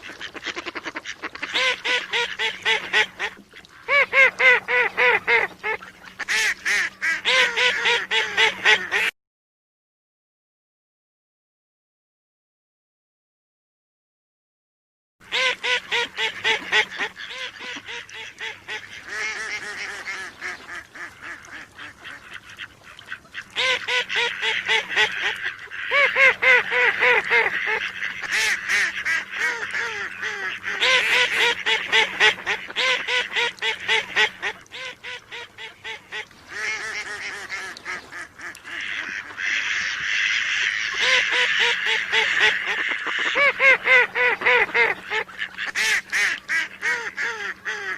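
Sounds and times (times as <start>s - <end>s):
duck quacking: 0.0s - 9.1s, 15.3s - 47.9s.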